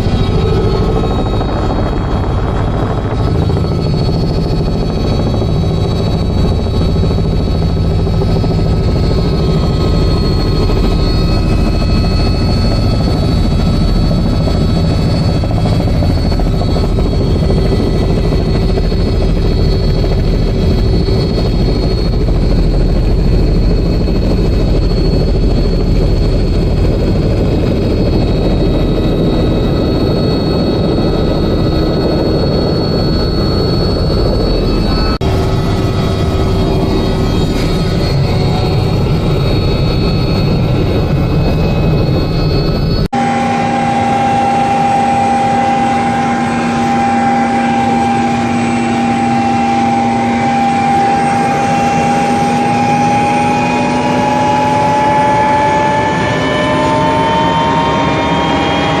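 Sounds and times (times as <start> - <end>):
helicopter running: 0.0 - 59.0
high whine: 0.0 - 59.0.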